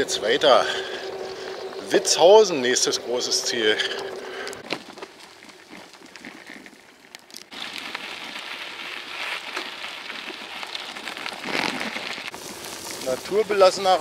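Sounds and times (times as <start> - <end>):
bicycle tyres crunching on gravel: 0.0 - 14.0.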